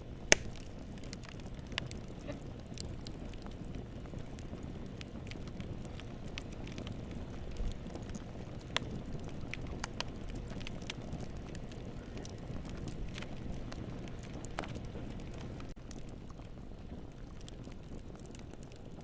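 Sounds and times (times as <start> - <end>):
fire crackling and popping: 0.0 - 19.0
fire flames roaring: 0.0 - 19.0.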